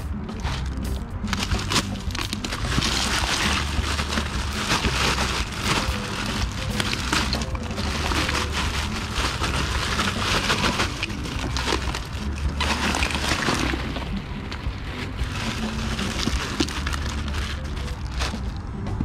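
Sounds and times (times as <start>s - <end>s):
plastic bag of ice crinkling: 0.4s - 19.0s.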